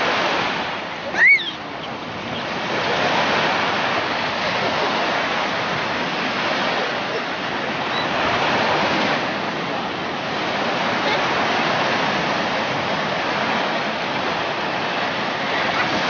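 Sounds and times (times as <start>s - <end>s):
waves breaking on a beach: 0.0s - 16.0s.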